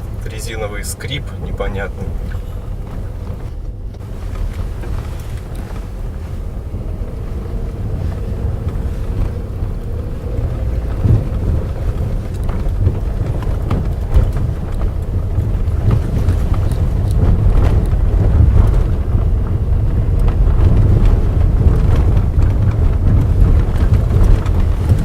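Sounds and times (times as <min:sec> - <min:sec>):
car road rumble: 0:00.0 - 0:25.0
suspension knocks: 0:00.0 - 0:25.0.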